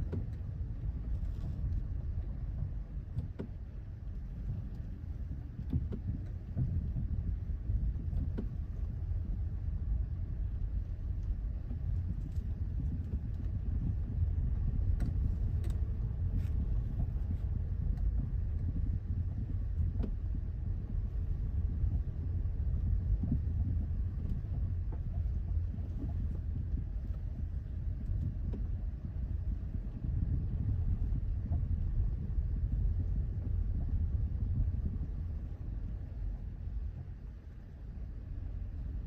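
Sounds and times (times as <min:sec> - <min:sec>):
car road rumble: 0:00.0 - 0:39.0.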